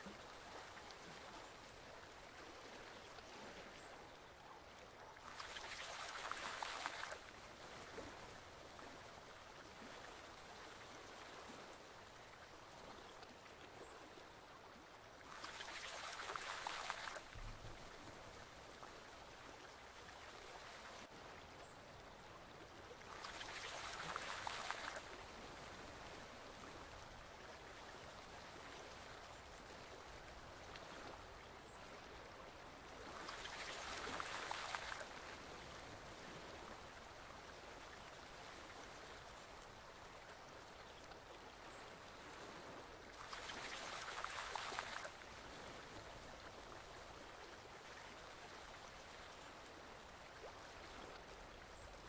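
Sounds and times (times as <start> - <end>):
stream water flowing: 0.0 - 52.0.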